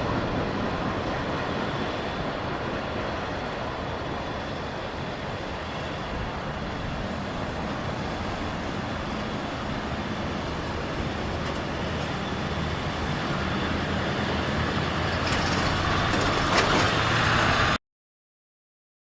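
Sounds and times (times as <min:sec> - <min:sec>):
train wheels rumbling on rail: 0:00.0 - 0:17.8.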